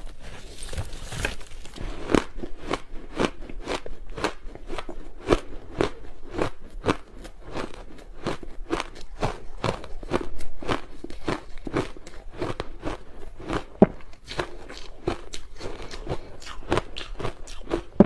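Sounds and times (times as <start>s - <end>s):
ice crunching between teeth: 0.0s - 18.0s.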